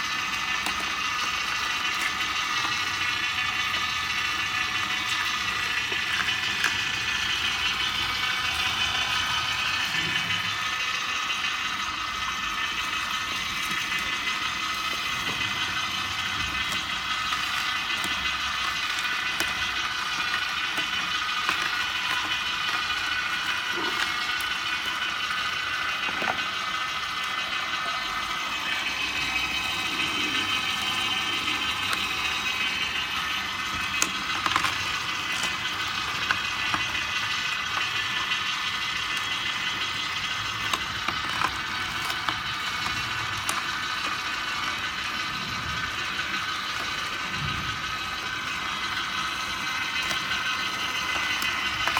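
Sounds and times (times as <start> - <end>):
juicer motor whining: 0.0 - 51.9
vegetables cracking: 0.2 - 10.4, 12.6 - 51.9.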